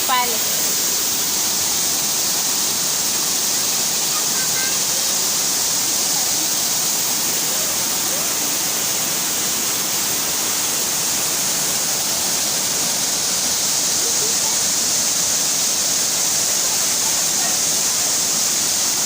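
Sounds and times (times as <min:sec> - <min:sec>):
waterfall rushing and splashing: 0:00.0 - 0:19.0.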